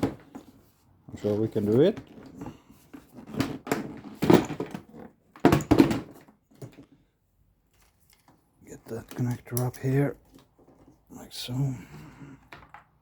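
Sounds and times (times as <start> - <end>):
handling knocks and rustles: 0.0 - 11.1.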